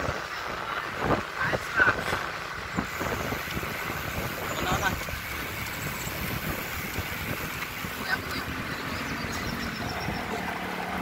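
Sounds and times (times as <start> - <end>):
bicycle tyres on road: 0.0 - 11.0
wind on microphone: 0.0 - 11.0.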